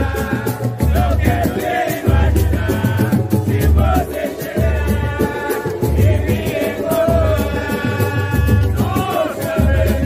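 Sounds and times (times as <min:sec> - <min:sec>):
samba music with singing: 0:00.0 - 0:10.0.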